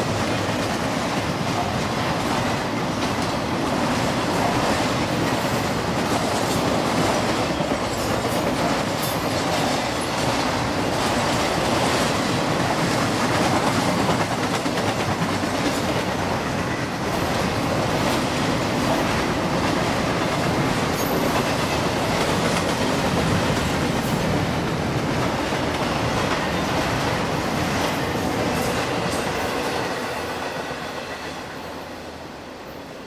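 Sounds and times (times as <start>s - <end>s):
steel wheels rumbling on rail: 0.0s - 33.0s.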